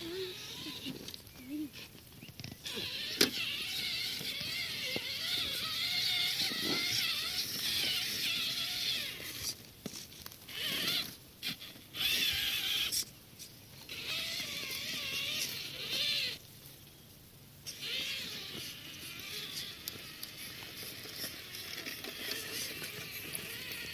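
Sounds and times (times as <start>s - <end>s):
toy truck electric motors whining: 0.0s - 13.1s, 13.8s - 16.4s, 17.6s - 23.9s.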